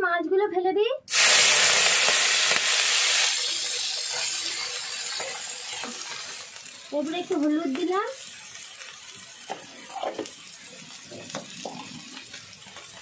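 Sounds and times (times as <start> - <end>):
prawns sizzling in hot oil: 1.1 - 13.0.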